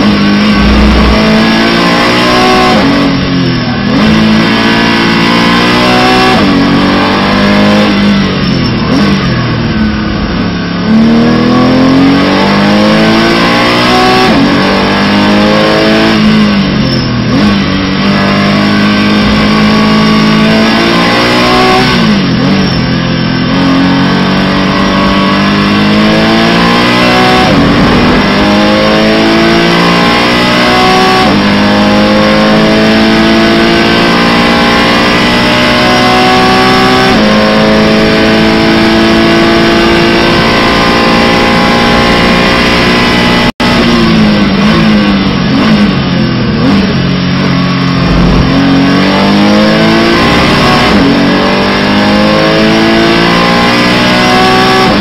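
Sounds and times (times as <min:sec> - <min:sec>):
engine at full throttle: 0:00.0 - 0:55.0.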